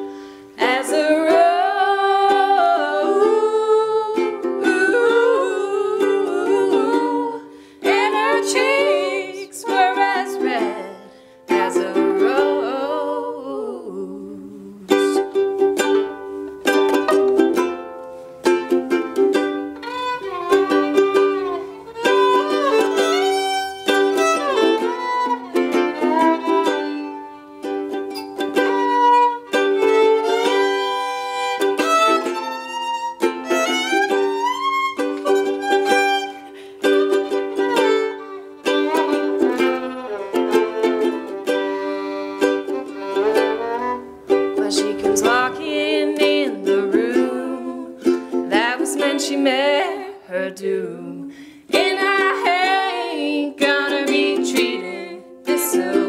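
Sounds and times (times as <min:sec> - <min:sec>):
fiddle melody with sliding notes: 0:00.0 - 0:12.8, 0:15.0 - 0:50.2
ukulele strumming chords: 0:00.0 - 0:56.0.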